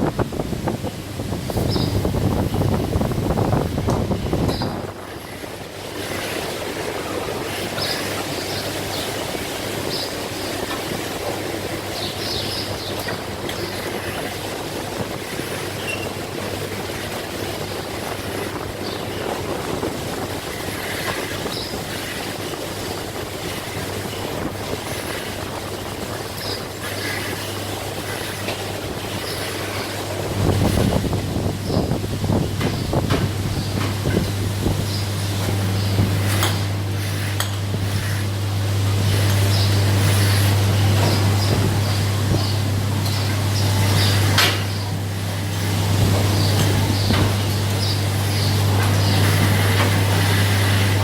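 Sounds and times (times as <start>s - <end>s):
machinery rumbling: 0.0s - 51.0s.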